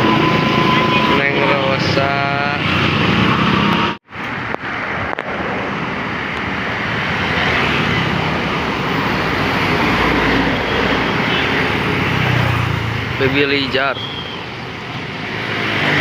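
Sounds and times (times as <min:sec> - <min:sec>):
roadside traffic noise: 0:00.0 - 0:16.0
vehicle rushing past: 0:00.0 - 0:16.0.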